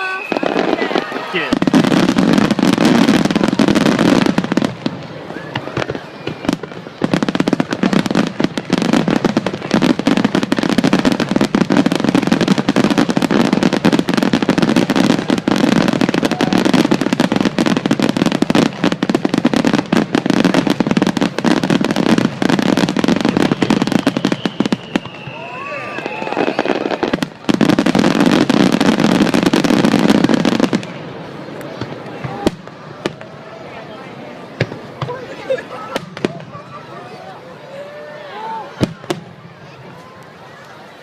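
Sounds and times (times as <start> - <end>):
fireworks bursts and crackles: 0.0 - 41.0.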